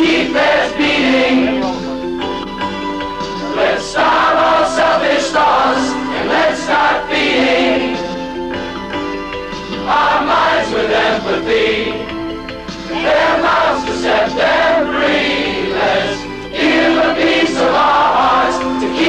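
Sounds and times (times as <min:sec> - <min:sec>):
mixed choir singing: 0:00.0 - 0:02.0, 0:03.4 - 0:08.5, 0:09.7 - 0:19.0.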